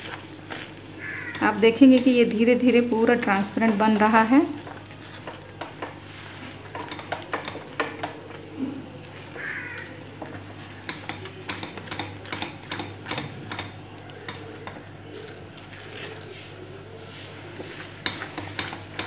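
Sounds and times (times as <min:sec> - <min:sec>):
faint sizzle: 0:00.0 - 0:19.0.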